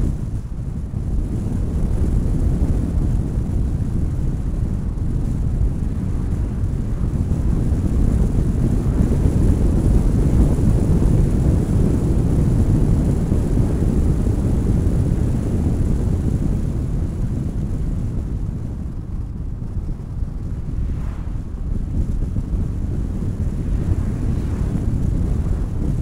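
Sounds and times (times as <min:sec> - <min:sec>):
road and tyre noise: 0:00.0 - 0:26.0
wind buffeting microphone: 0:00.0 - 0:26.0.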